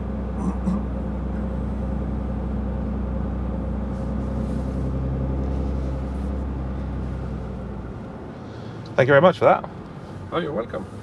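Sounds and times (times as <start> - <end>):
truck diesel engine hum: 0.0 - 11.0.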